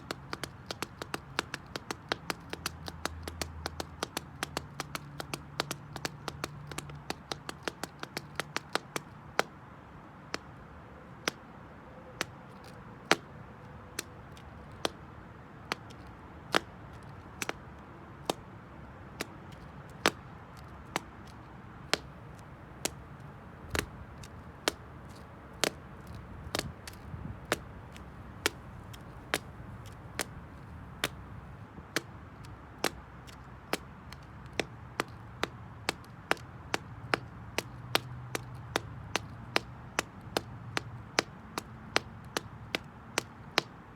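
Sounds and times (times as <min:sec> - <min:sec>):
shoe tapping on concrete: 0:00.0 - 0:09.6, 0:10.2 - 0:10.6, 0:12.2 - 0:13.3, 0:14.0 - 0:18.5, 0:19.1 - 0:43.9.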